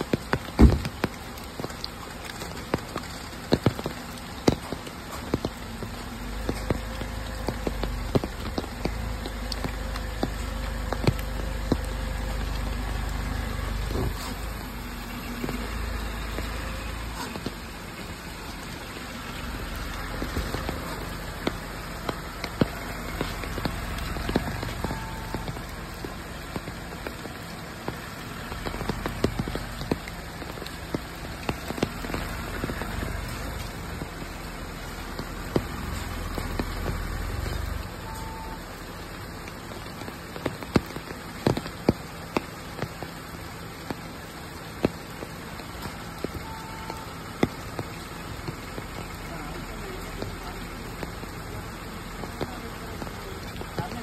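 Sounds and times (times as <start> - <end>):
rain pattering: 0.0 - 54.0
sharp drips: 0.0 - 54.0.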